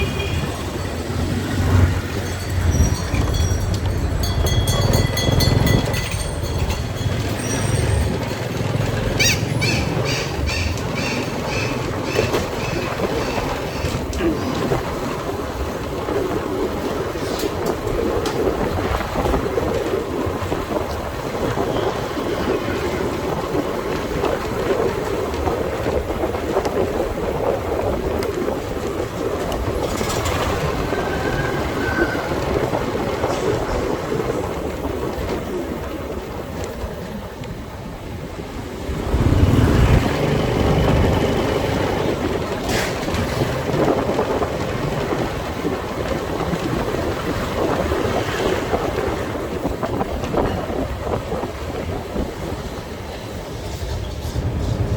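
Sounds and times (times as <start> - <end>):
motorcycle engine and road noise: 0.0 - 54.9.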